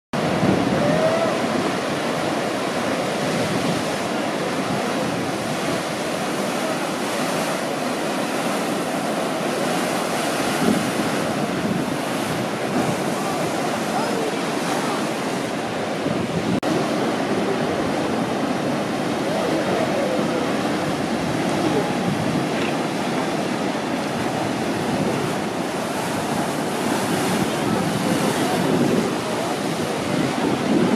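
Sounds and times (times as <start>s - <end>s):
ocean surf breaking: 0.2s - 30.9s
wind on microphone: 0.2s - 30.9s.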